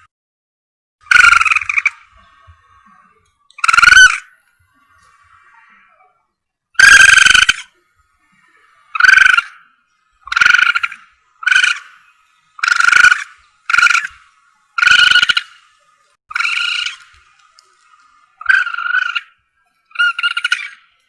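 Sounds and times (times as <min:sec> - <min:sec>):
harsh high-pitched lure calls: 0:01.0 - 0:06.2, 0:06.8 - 0:21.0.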